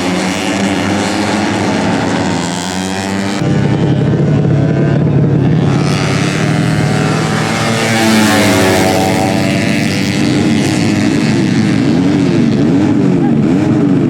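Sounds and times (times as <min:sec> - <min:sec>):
race motorcycles at high revs: 0:00.0 - 0:14.0.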